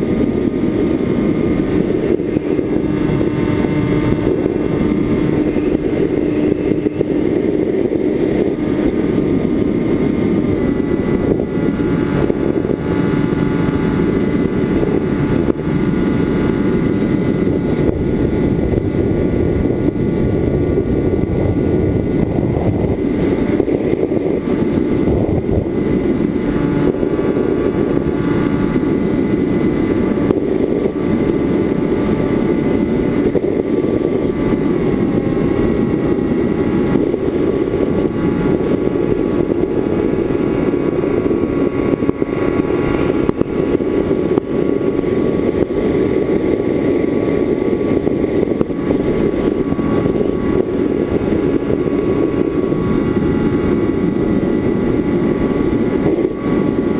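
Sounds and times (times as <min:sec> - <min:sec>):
electric motor propeller whir: 0:00.0 - 0:56.9
rushing air: 0:00.0 - 0:56.9.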